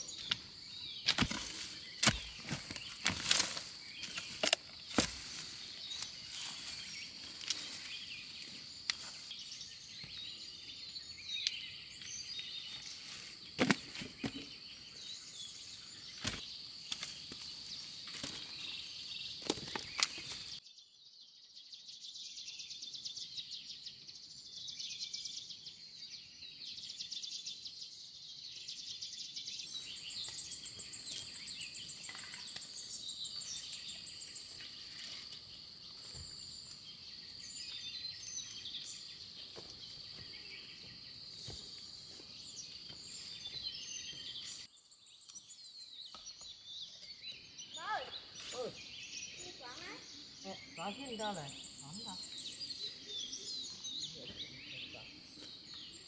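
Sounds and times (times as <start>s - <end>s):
insect chorus buzzing: 0.0s - 20.6s, 22.1s - 56.0s.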